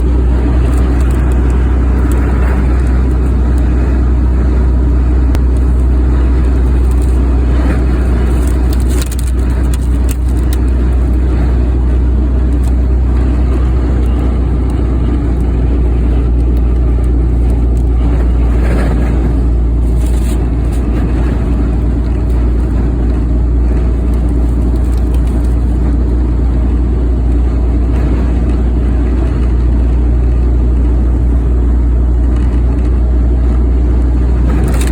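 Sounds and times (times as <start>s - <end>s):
road and wind rumble: 0.0s - 34.9s.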